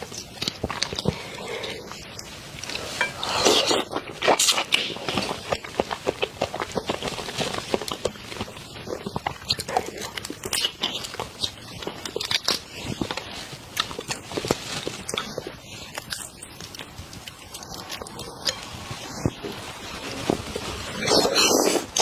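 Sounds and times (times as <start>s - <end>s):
wet biting and chewing: 0.0s - 19.4s.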